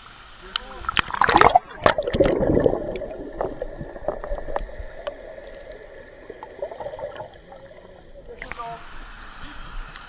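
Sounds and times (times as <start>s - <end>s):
water splashing and gurgling: 0.7s - 8.8s.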